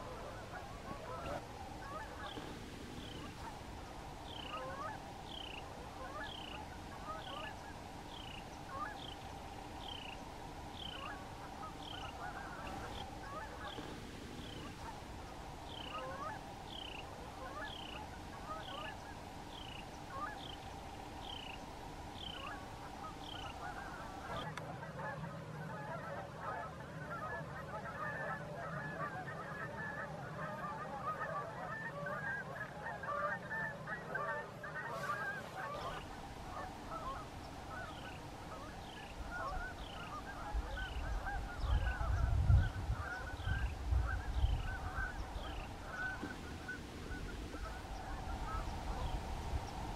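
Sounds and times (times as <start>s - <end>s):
flock of waterfowl calling: 0.0s - 49.9s.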